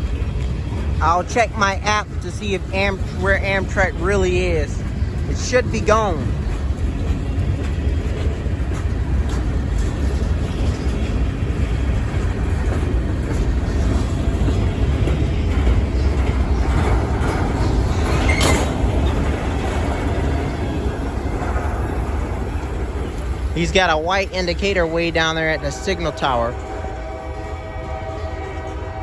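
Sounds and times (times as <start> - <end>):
freight train rumbling: 0.0 - 29.0.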